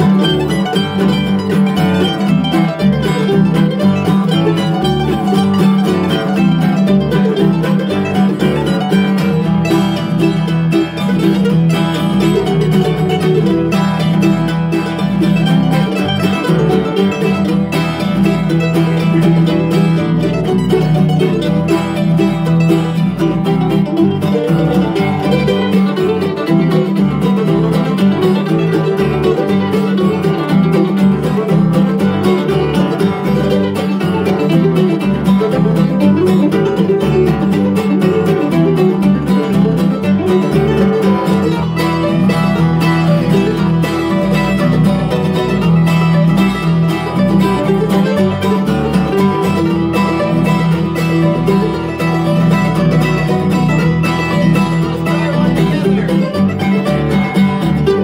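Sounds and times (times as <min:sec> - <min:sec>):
bluegrass string band: 0:00.0 - 0:58.0.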